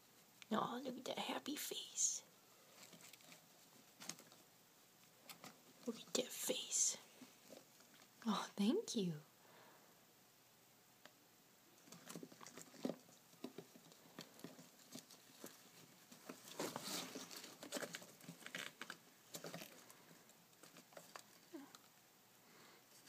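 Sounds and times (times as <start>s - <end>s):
rat moving among plastic balls: 1.5s - 8.3s, 11.0s - 23.0s.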